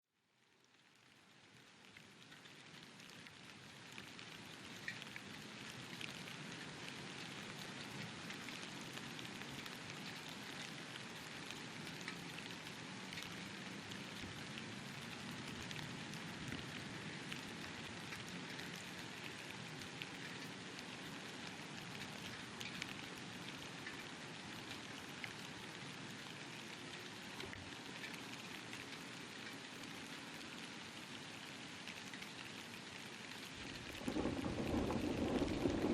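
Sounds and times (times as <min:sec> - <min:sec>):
steady rain falling: 0:00.1 - 0:35.9
raindrops ticking close by: 0:00.2 - 0:35.9.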